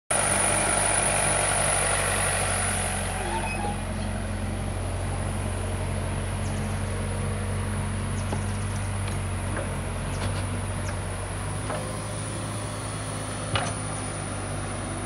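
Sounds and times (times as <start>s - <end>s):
backhoe loader digging: 0.1s - 15.0s
truck diesel engine idling: 0.1s - 15.0s.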